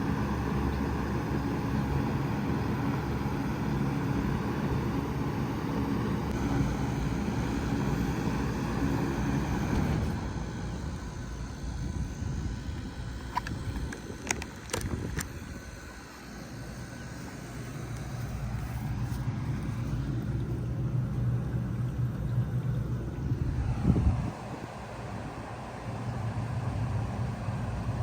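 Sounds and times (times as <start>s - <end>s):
heat pump humming: 0.0s - 28.0s
quiet airflow: 0.0s - 28.0s.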